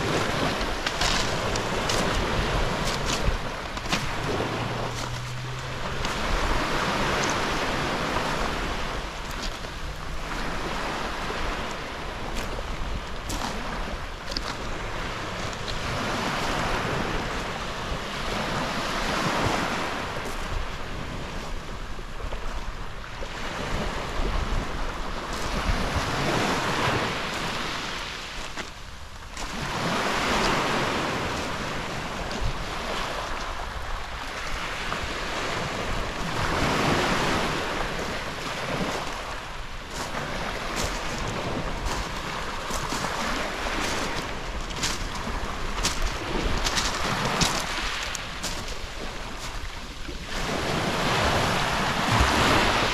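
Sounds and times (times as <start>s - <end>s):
waves washing onto pebble beach: 0.0s - 52.9s
wind rumbling on microphone: 0.0s - 52.9s.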